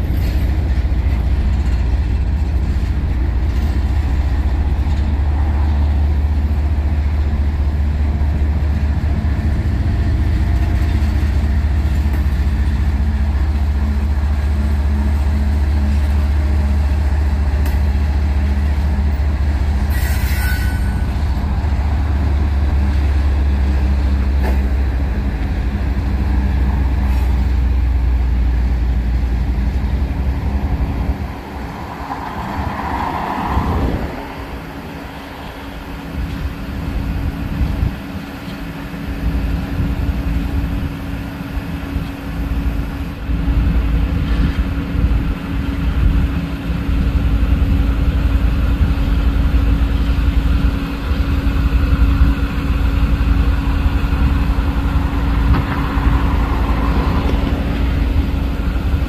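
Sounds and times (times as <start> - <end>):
diesel locomotive engine rumble: 0.0 - 59.0.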